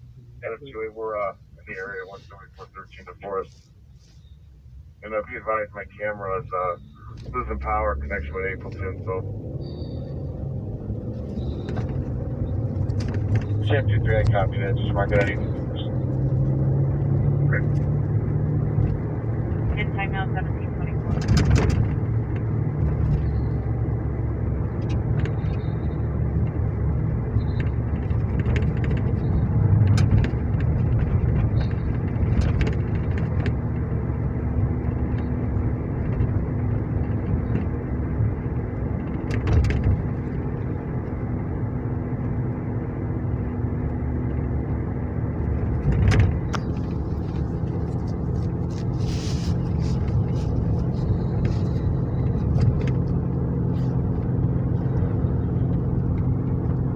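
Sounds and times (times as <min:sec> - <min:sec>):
car engine and road rumble: 0:00.0 - 0:56.9.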